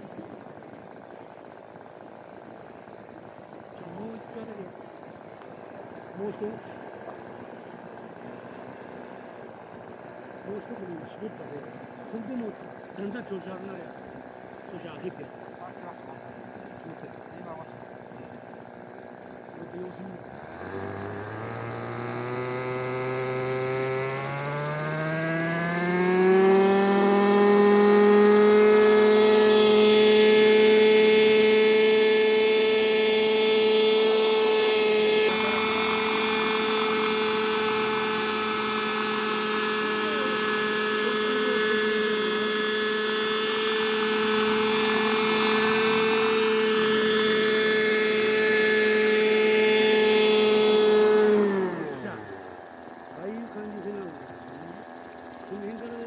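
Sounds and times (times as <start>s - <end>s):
model helicopter engine and rotor drone: 0.0s - 56.0s.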